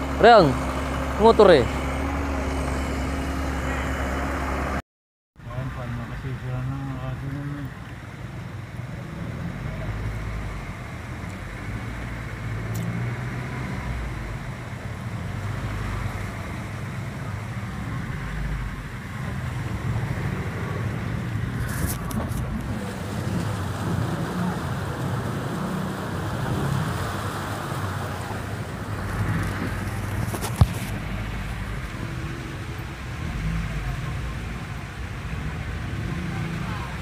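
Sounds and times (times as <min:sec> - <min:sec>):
road noise: 0:00.0 - 0:04.8, 0:05.4 - 0:37.0
car engine running: 0:05.5 - 0:26.4, 0:27.3 - 0:37.0.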